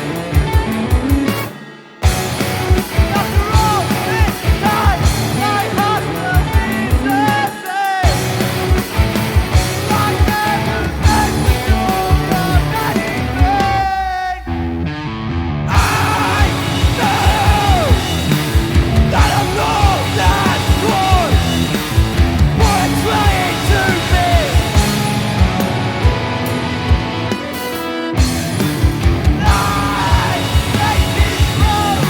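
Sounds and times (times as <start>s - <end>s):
sung and yelled vocals: 0.0s - 14.6s, 15.7s - 26.4s, 29.0s - 32.0s
punk rock band playing: 0.0s - 32.0s.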